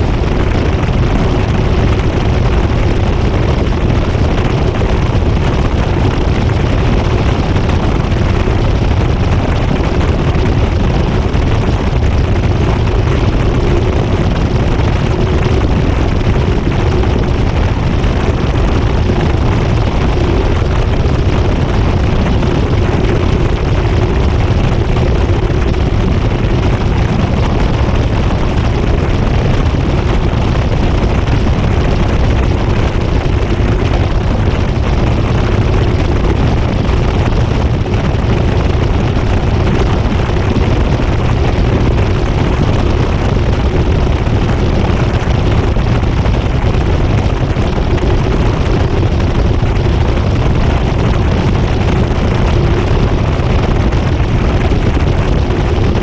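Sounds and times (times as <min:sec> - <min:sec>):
faint steady hum: 0:00.0 - 0:56.0
washer drum spinning rumble: 0:00.0 - 0:56.0.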